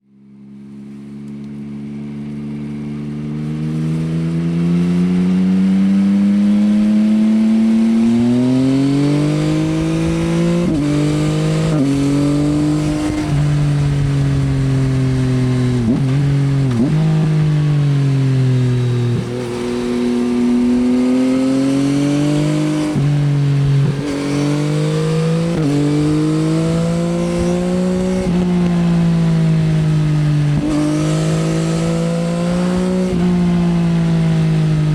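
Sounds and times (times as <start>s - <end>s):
motorcycle engine revving: 0.6s - 34.9s.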